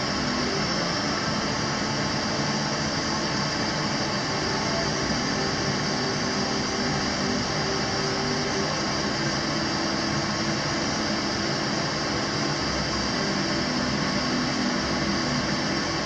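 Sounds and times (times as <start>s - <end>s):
gas burner hissing: 0.0s - 16.0s.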